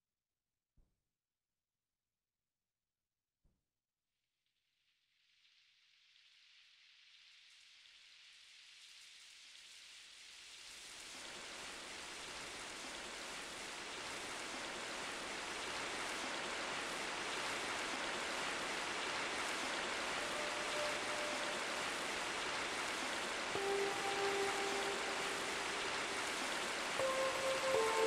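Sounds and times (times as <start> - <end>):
rain-like hiss: 5.3 - 28.0.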